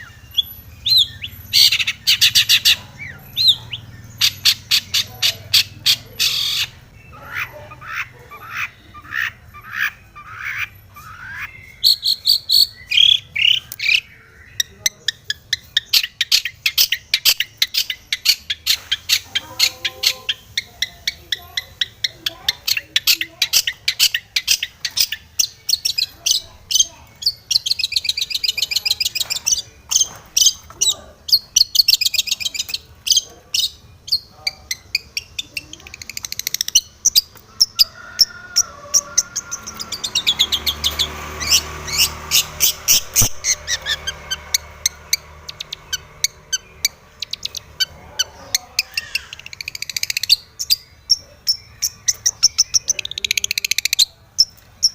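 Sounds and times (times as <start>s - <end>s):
bird singing rapid chattering song: 0.0s - 54.9s.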